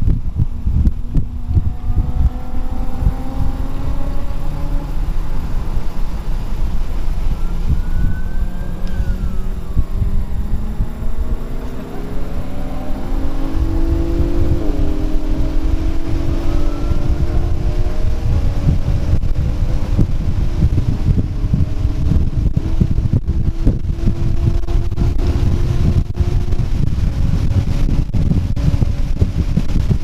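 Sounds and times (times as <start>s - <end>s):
car engine accelerating: 0.0s - 30.0s
road and tyre rumble: 0.0s - 30.0s.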